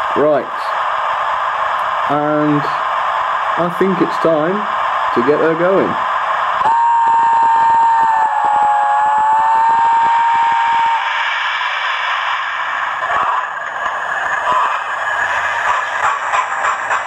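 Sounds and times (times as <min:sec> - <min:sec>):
steam hissing: 0:00.0 - 0:17.0.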